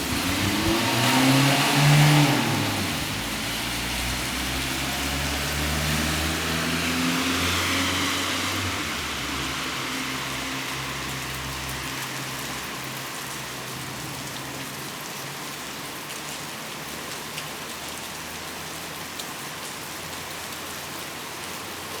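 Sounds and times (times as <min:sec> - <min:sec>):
car passing on wet road: 0:00.0 - 0:22.0
rain falling: 0:00.0 - 0:22.0.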